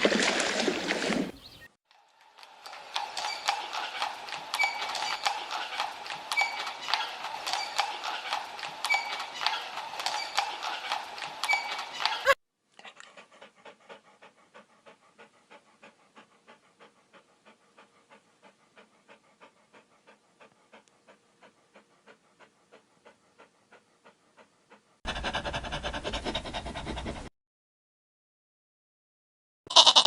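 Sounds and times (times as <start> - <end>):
animal panting: 2.7 - 27.3.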